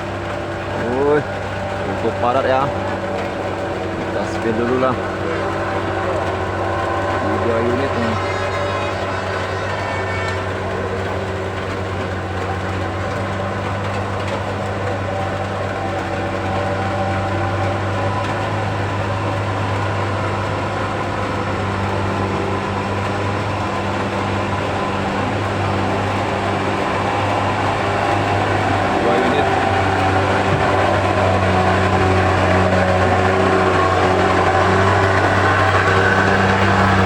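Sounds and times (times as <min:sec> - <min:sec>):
road noise: 0:00.0 - 0:37.0
truck diesel engines under load: 0:00.0 - 0:37.0.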